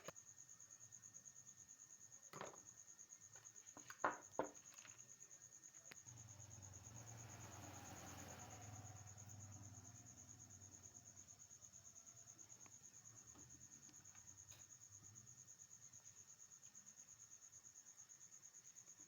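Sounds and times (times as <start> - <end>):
cricket trilling: 0.0 - 19.0.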